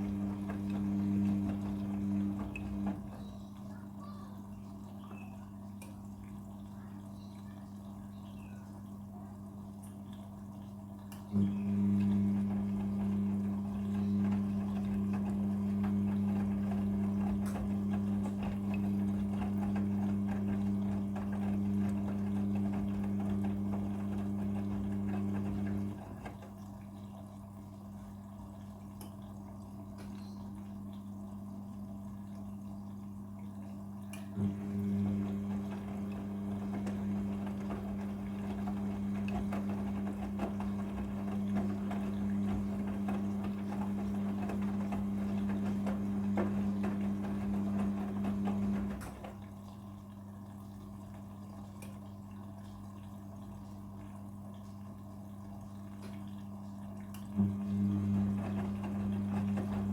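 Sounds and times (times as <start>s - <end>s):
washing machine humming: 0.0s - 59.9s
water rushing into machine: 0.0s - 59.9s.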